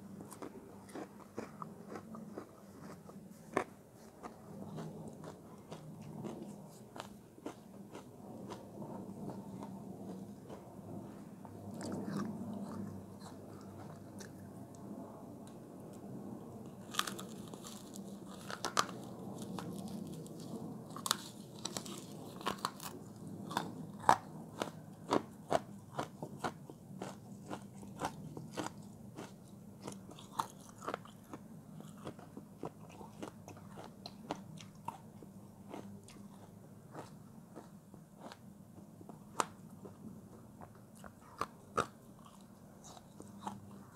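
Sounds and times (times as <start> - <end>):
crunchy chewing of frozen food: 0.0 - 15.6, 16.6 - 43.9.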